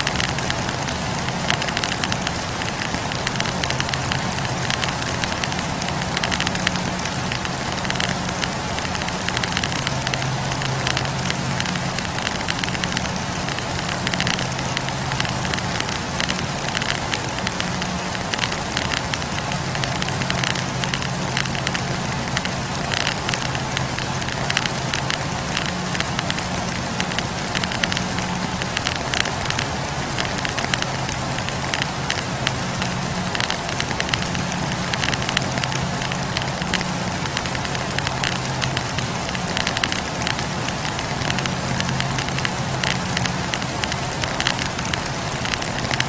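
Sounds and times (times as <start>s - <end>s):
fire low rumble: 0.0s - 46.0s
firewood crackling: 0.0s - 46.0s.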